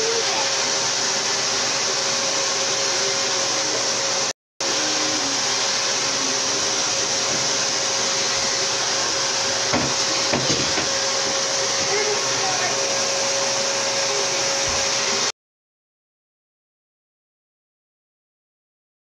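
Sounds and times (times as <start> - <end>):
vacuum cleaner running: 0.0 - 15.3.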